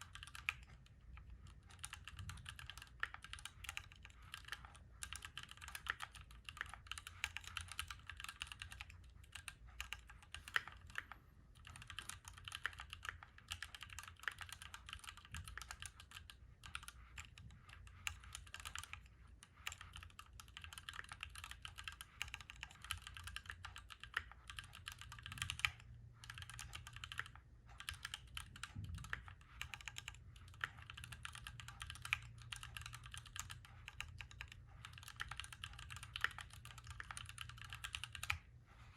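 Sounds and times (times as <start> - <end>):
mechanical keyboard typing: 0.0 - 38.4.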